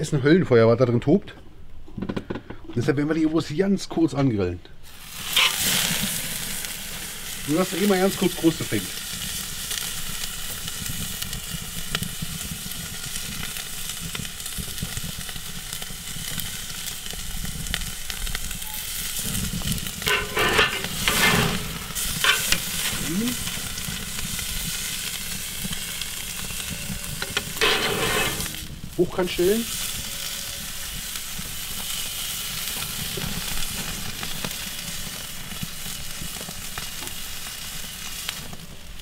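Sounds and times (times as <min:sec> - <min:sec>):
meat sizzling on a grill: 0:04.8 - 0:39.0.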